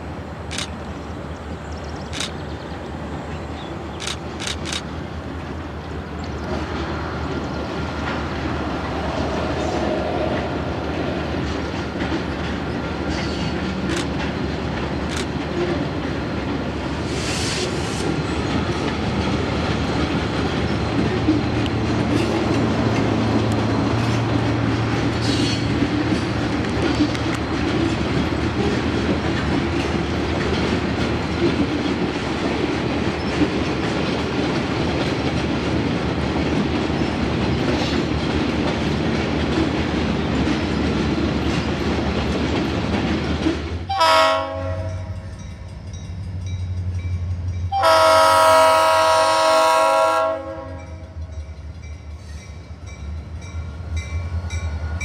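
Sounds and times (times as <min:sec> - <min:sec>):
freight train wheels clacking: 0:00.0 - 0:55.0.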